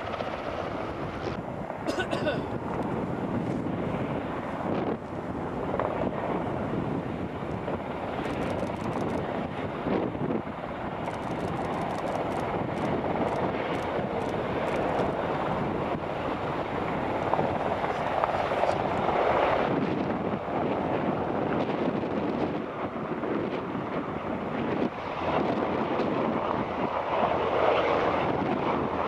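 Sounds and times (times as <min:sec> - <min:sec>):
helicopter rotor and turbine noise: 0:00.0 - 0:29.0
wind buffeting microphone: 0:00.0 - 0:29.0.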